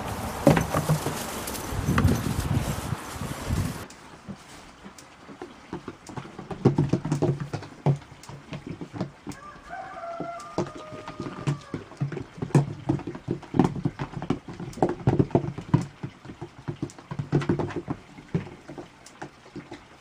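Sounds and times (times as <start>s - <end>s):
goat hooves tapping on wood: 0.0s - 2.7s, 3.5s - 20.0s.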